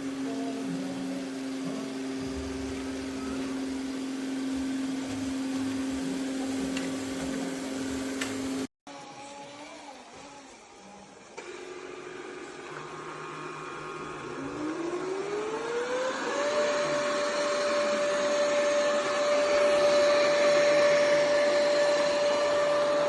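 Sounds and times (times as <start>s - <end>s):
quiet machine whir: 0.0s - 23.0s
robot vacuum motor hum: 0.0s - 23.0s.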